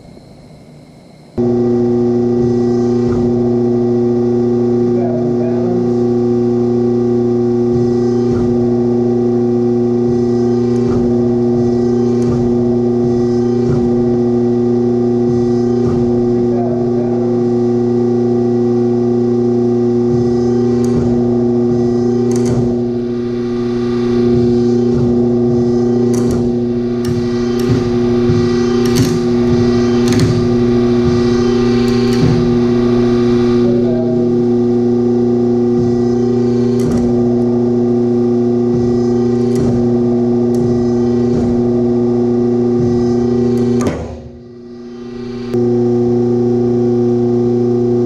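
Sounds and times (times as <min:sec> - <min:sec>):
motor humming: 0:00.0 - 0:48.0.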